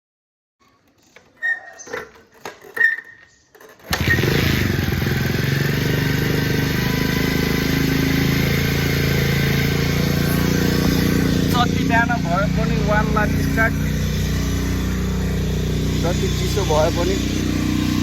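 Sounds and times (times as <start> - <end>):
motorcycle engine starting and idling: 3.5 - 18.0.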